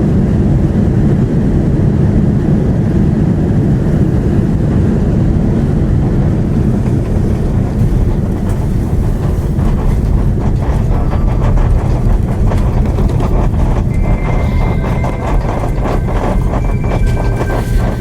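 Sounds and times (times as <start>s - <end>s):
low rumble of aircraft taxiing: 0.0s - 18.0s.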